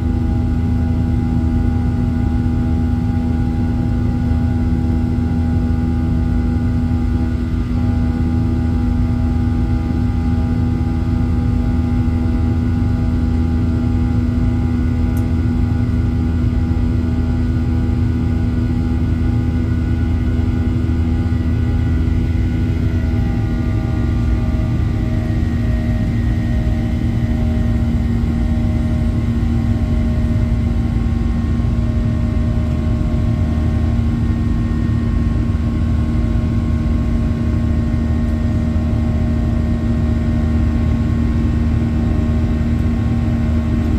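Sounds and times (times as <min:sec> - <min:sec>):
jet engines droning in cabin: 0:00.0 - 0:43.9.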